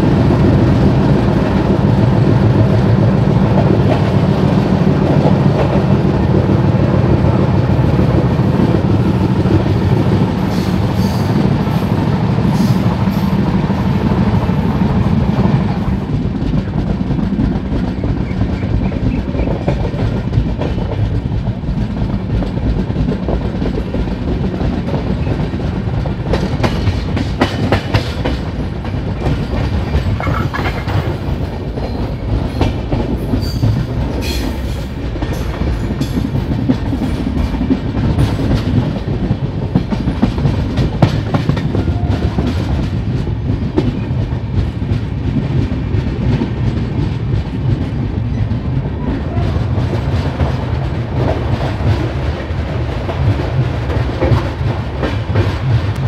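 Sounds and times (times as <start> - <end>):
train clattering: 0.0 - 56.0
train wheels rumbling on rails: 0.0 - 56.0.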